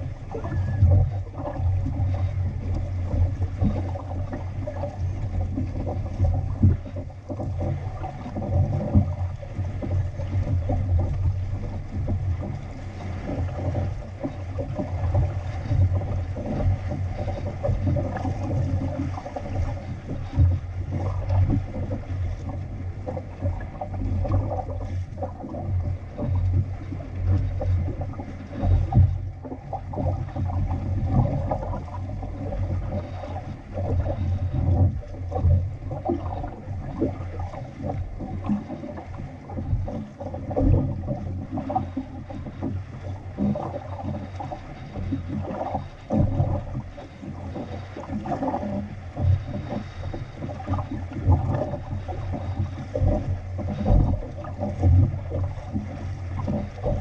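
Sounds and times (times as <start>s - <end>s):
water splashing along hull: 0.0s - 57.0s
wind rumbling on microphone: 0.0s - 57.0s.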